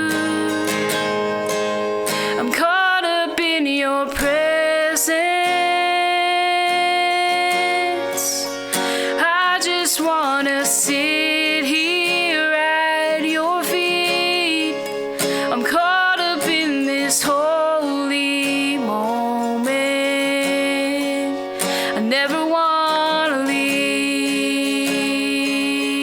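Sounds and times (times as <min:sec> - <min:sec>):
person singing with vibrato: 0:00.0 - 0:26.0
strummed acoustic guitar: 0:00.0 - 0:26.0.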